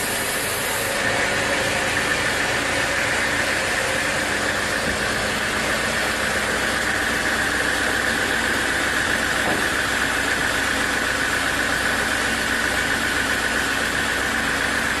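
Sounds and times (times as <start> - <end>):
sawmill machinery running: 0.0 - 15.0
steady mechanical whine: 0.0 - 15.0.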